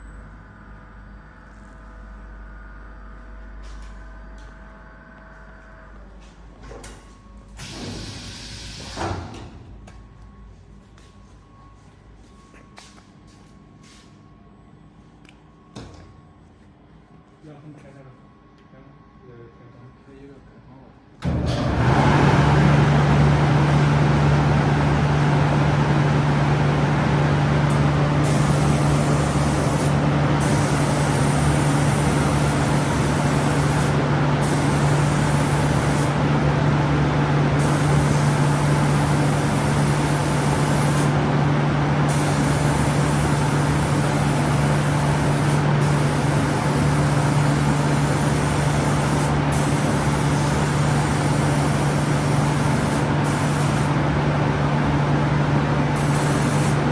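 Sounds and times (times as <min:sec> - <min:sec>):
machine mechanical hum: 0:00.0 - 0:56.9.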